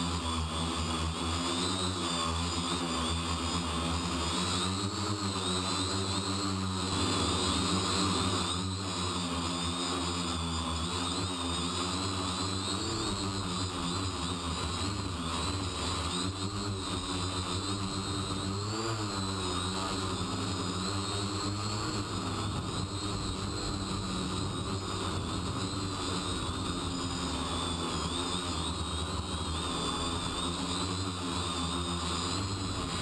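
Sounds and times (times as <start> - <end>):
quadcopter motors whining: 0.0 - 33.0.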